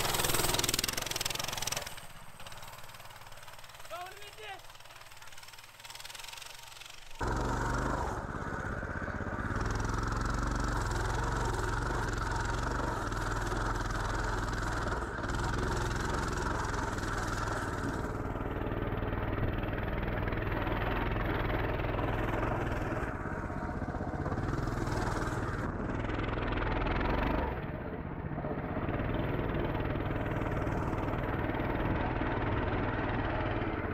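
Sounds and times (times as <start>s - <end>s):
small motorcycle engine running: 0.0s - 33.9s.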